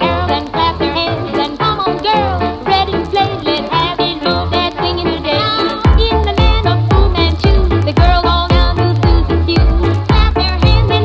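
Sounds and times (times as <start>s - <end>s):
upbeat music with steady beat: 0.0s - 11.0s.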